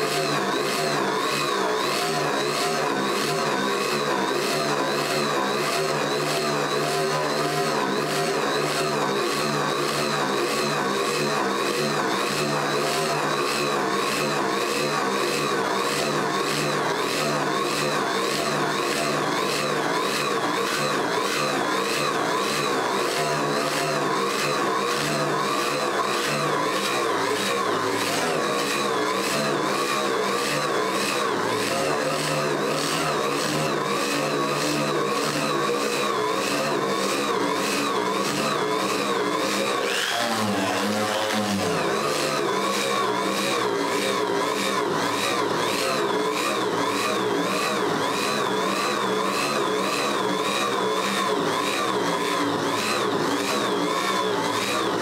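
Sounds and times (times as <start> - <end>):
power sander on metal: 0.0 - 55.0.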